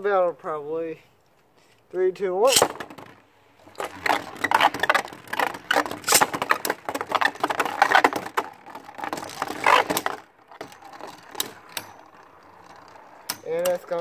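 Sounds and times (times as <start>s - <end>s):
spinning tops whirring and scraping: 2.5s - 14.0s
tops clacking together: 2.5s - 14.0s.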